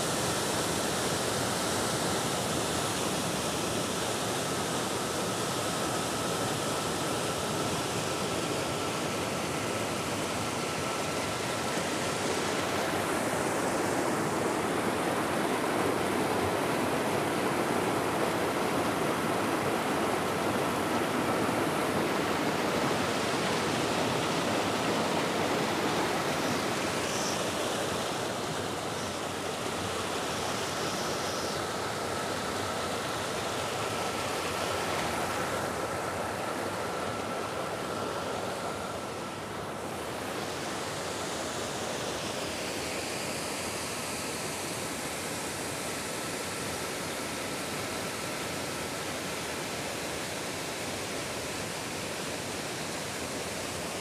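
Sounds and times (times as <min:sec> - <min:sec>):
waterfall roaring over rock: 0:00.0 - 0:54.0.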